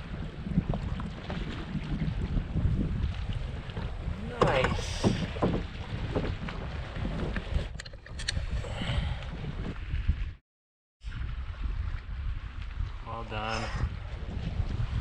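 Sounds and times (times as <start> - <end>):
wind rumbling on microphone: 0.0 - 10.4, 11.0 - 15.0.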